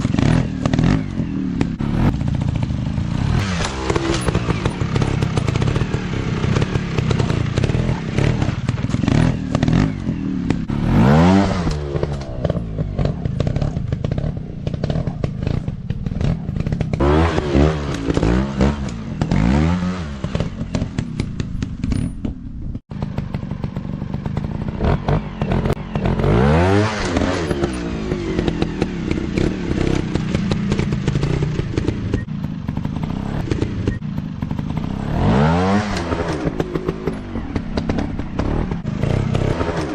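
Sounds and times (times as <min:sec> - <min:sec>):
dirt bike engines revving: 0:00.0 - 0:22.0, 0:22.9 - 0:39.9.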